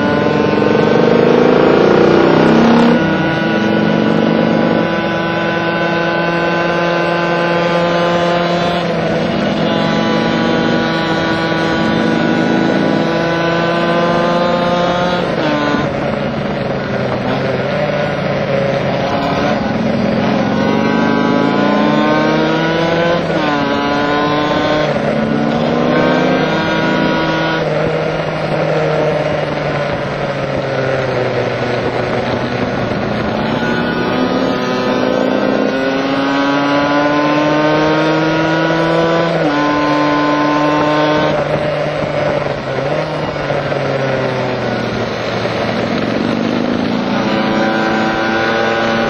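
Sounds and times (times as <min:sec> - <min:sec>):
two-stroke motorcycle engine revving: 0:00.0 - 0:49.0.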